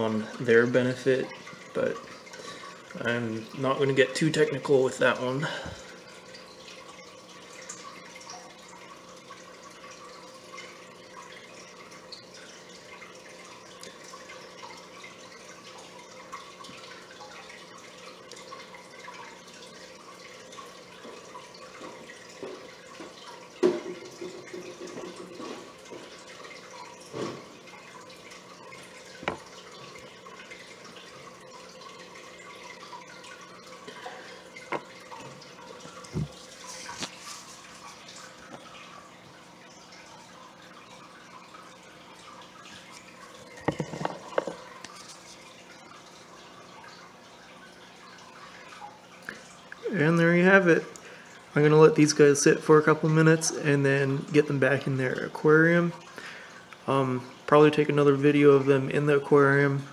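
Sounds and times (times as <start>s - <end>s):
aquarium water trickling: 0.0s - 59.9s.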